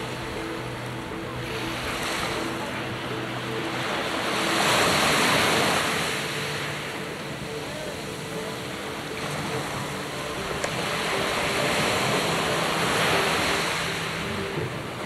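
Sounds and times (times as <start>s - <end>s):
faint steady hum: 0.0s - 15.0s
sea waves washing: 0.0s - 15.0s.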